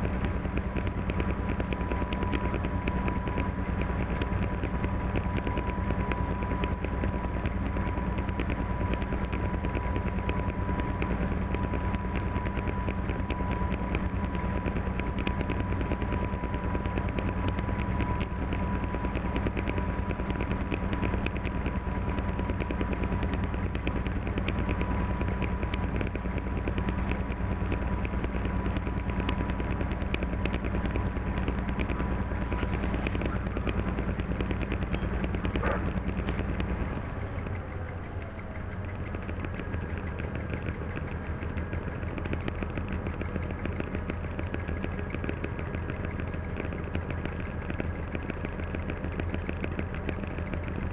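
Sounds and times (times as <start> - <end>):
diesel engine drone: 0.0 - 50.9.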